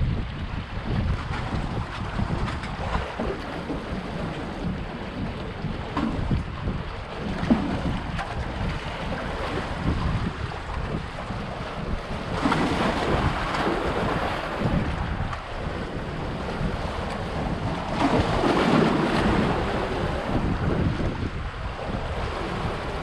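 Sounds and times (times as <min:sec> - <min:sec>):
surf washing over rocks: 0:00.0 - 0:23.0
wind buffeting microphone: 0:00.0 - 0:23.0.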